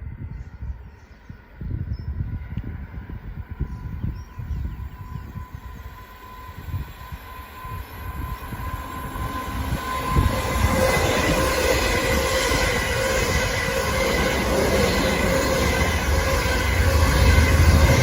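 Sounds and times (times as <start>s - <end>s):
train rushing past on rails: 0.0s - 18.0s.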